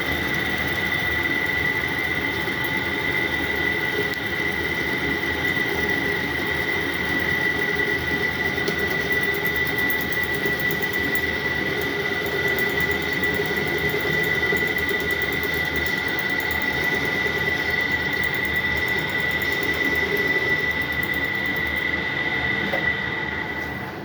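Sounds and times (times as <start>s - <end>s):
metal lathe running: 0.0s - 23.7s.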